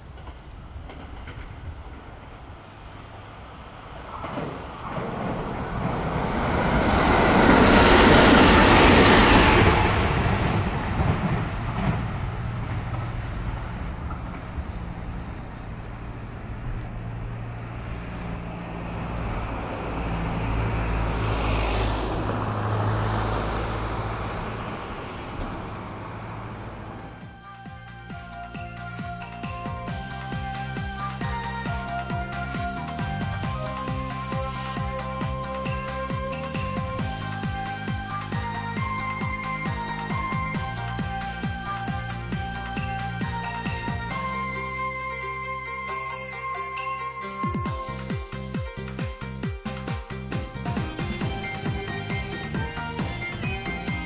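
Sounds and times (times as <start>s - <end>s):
train passing at speed: 0.0s - 54.0s.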